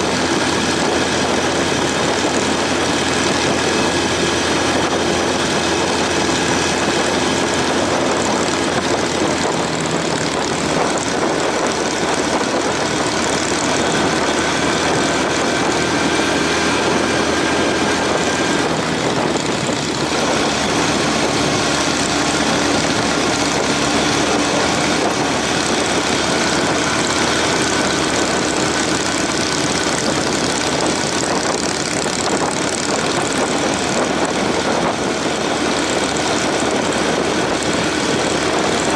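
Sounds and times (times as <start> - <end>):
motorcycle engine running: 0.0 - 38.9
rushing wind noise: 0.0 - 38.9.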